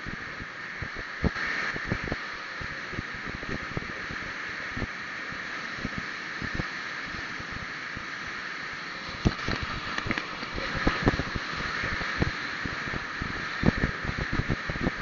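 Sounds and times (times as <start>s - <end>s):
wind and road noise on microphone: 0.0s - 15.0s.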